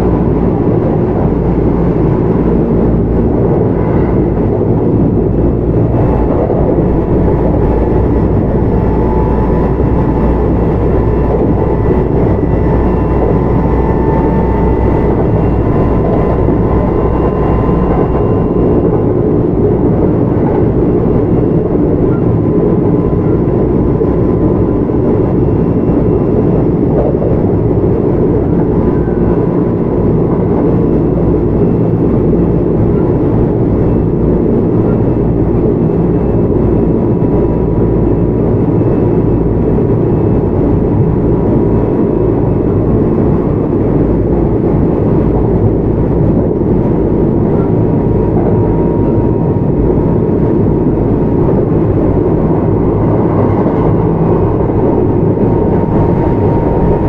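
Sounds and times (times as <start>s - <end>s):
faint steady whine: 0.0s - 57.0s
wheels rumbling on rail: 0.0s - 57.0s.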